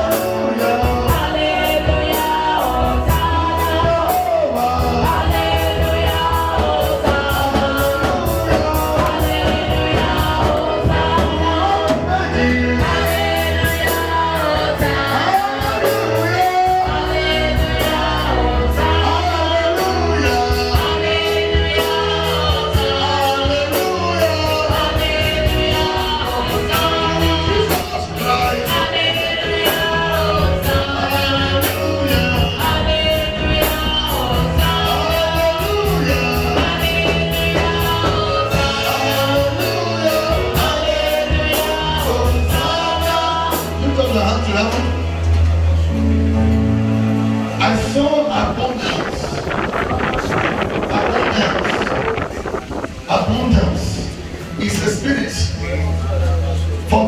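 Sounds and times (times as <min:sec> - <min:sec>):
band music with singing: 0:00.0 - 0:57.0.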